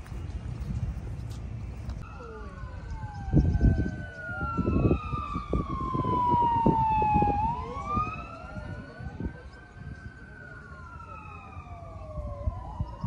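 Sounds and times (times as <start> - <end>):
siren wailing: 2.0 - 13.0.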